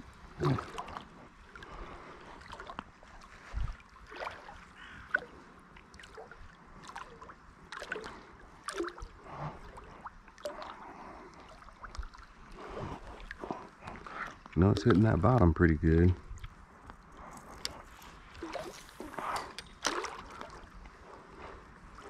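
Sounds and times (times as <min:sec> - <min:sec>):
water sloshing and gurgling: 0:00.0 - 0:22.0.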